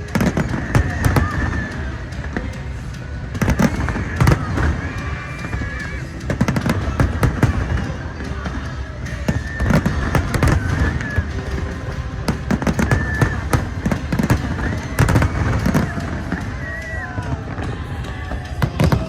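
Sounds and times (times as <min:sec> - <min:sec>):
fireworks bangs: 0:00.0 - 0:19.0
fireworks whistling: 0:00.0 - 0:19.0.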